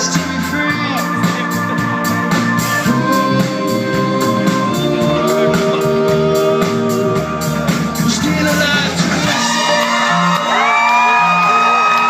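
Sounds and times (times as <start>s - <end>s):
band music playing: 0.0s - 12.0s
drums keeping a steady beat: 0.0s - 12.0s.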